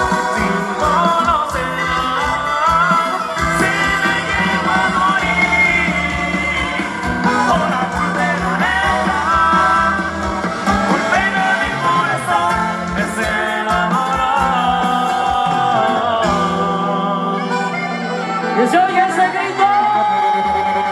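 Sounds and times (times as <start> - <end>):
live band playing: 0.0 - 20.9.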